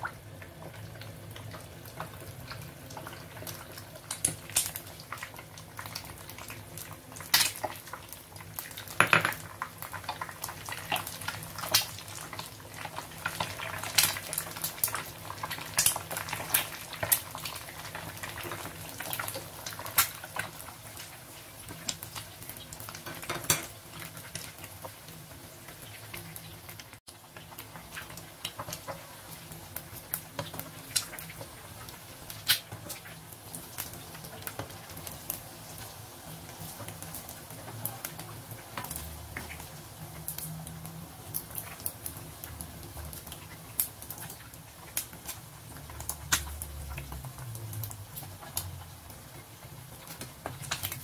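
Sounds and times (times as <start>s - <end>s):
eggs sizzling in hot oil: 0.0s - 51.0s
oil popping and crackling: 0.0s - 51.0s.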